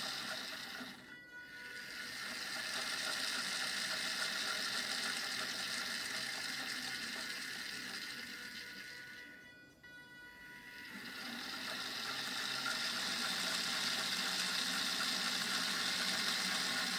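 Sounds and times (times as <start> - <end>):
small gear motors whirring: 0.0 - 16.9.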